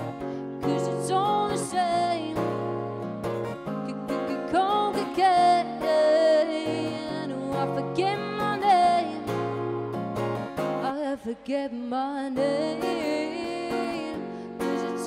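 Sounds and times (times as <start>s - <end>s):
strummed acoustic guitar: 0.0s - 11.4s, 12.3s - 15.0s.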